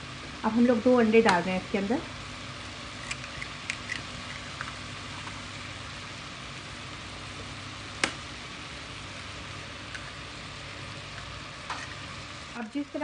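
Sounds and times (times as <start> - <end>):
egg sizzling in frying pan: 0.0 - 13.0.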